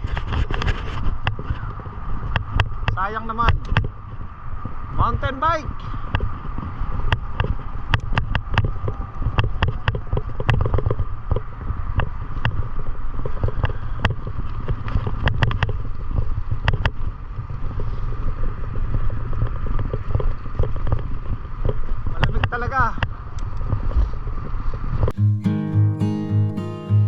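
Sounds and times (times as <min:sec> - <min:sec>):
wind buffeting microphone: 0:00.0 - 0:22.5.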